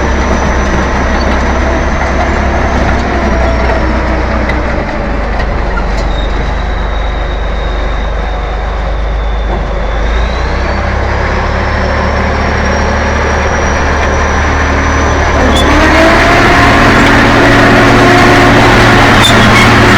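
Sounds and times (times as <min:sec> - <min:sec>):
bulldozer diesel engine running: 0:00.0 - 0:19.9
high engine whine: 0:00.0 - 0:19.9.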